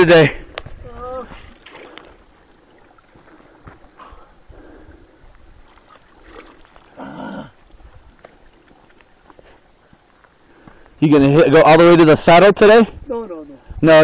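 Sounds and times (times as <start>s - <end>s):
quiet scattered sounds: 0.0s - 13.0s.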